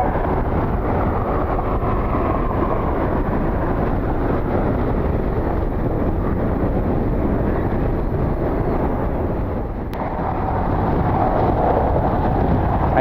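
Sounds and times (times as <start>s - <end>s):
jet engines climbing away: 0.0s - 13.0s
wind on microphone: 0.0s - 13.0s.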